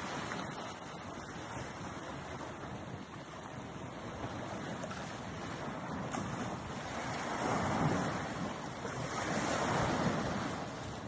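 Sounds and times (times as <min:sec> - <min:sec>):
water washing against shore: 0:00.0 - 0:11.0
wind rushing over microphone: 0:00.0 - 0:11.0.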